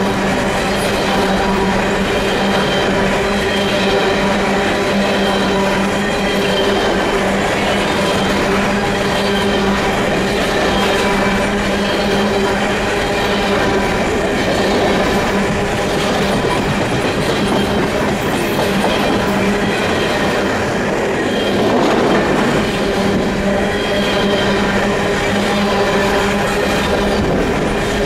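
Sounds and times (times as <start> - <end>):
train wheels clattering on rails: 0.0 - 28.0.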